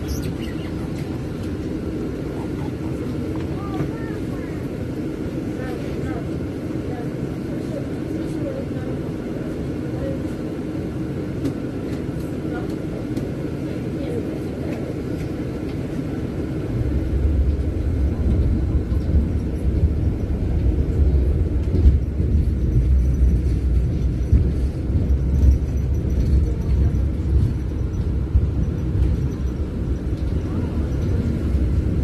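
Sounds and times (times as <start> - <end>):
road traffic: 0.0 - 32.0
trams rumbling past: 0.0 - 32.0.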